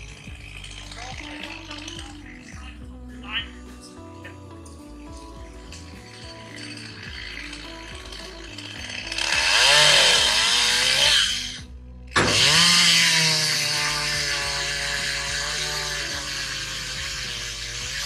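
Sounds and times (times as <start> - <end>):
chainsaw cutting: 0.0 - 3.4, 4.3 - 18.0.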